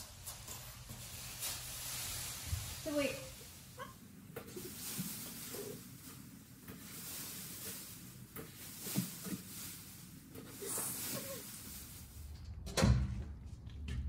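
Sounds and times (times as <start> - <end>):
plastic sheeting rustling: 0.0 - 12.5.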